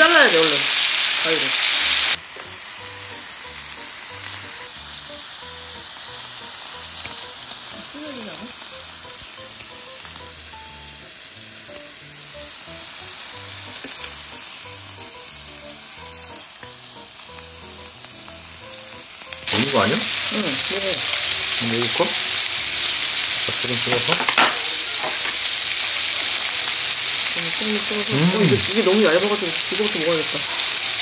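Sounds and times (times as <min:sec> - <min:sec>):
meat sizzling on grill pan: 0:00.0 - 0:31.0.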